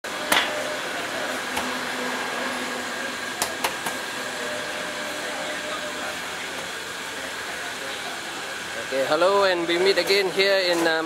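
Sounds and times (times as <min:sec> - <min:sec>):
fan-like mechanical hum: 0:00.0 - 0:11.0.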